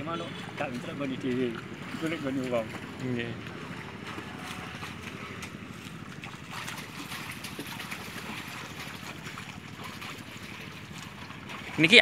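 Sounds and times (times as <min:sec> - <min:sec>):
person wading through shallow water: 0:00.0 - 0:12.0
steady low hum: 0:00.0 - 0:12.0.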